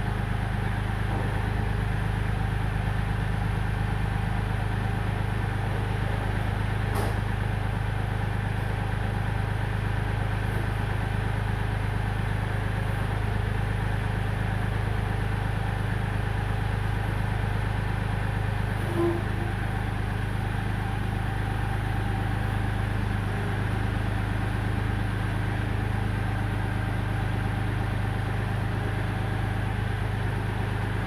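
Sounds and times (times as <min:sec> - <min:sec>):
tractor diesel engine idling: 0:00.0 - 0:31.0.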